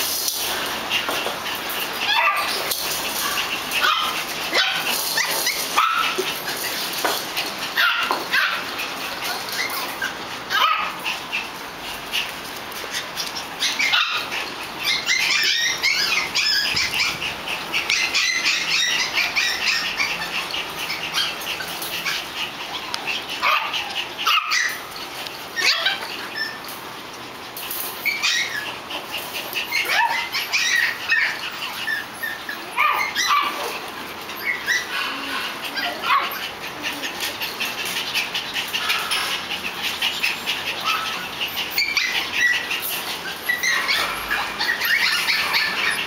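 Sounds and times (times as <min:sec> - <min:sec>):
small dogs barking and yapping: 0:00.0 - 0:46.0.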